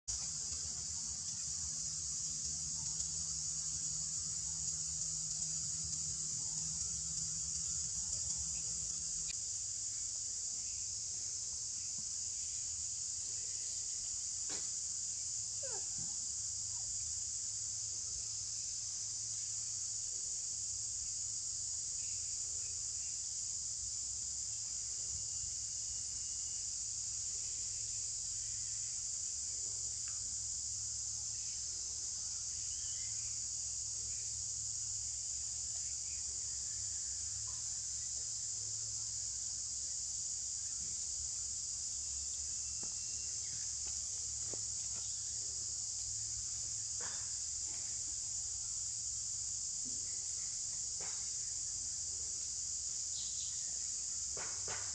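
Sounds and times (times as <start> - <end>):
high-pitched insect chorus: 0.1 - 54.9.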